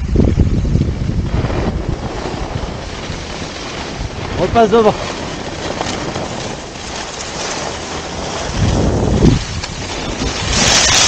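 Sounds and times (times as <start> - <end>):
skis scraping over snow: 0.0 - 11.0
wind buffeting microphone: 0.0 - 11.0.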